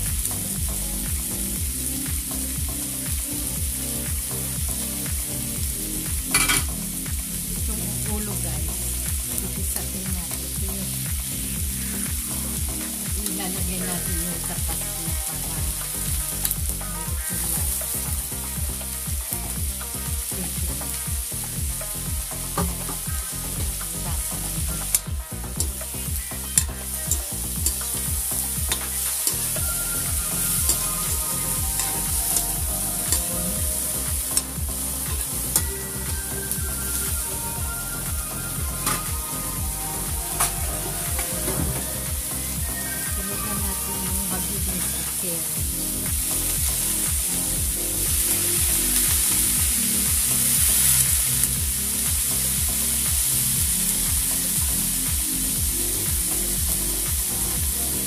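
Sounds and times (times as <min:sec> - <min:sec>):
oil sizzling in a wok: 0:00.0 - 0:58.0.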